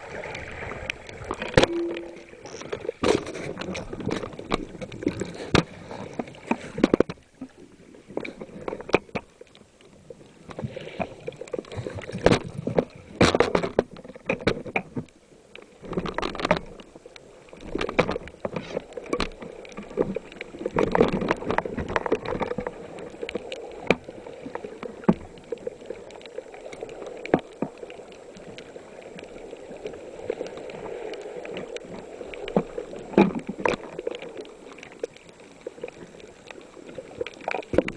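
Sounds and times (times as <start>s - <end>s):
water sloshing and gurgling: 0.0s - 37.9s.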